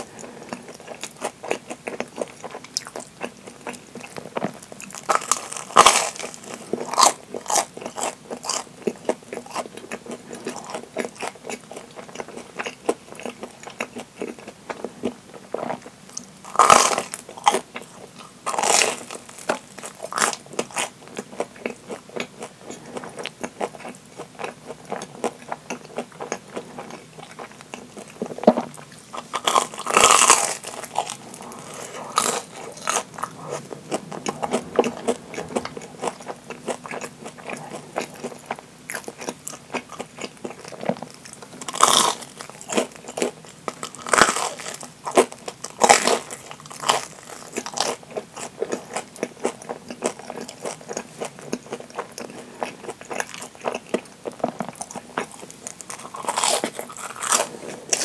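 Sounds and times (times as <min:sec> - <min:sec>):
crisp crunching while chewing: 0:00.0 - 0:58.0.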